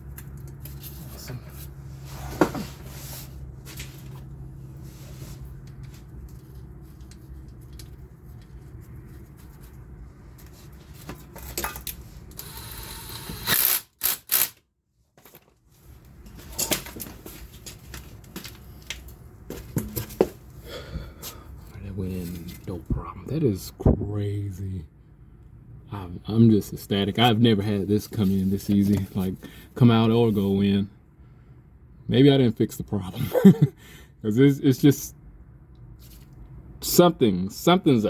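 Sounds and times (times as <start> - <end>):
low steady hum: 0.0 - 13.8, 15.2 - 38.0.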